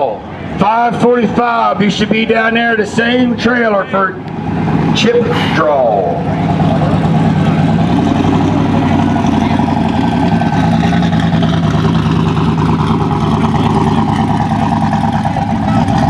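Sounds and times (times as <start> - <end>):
race car engines idling loudly: 0.0 - 16.0.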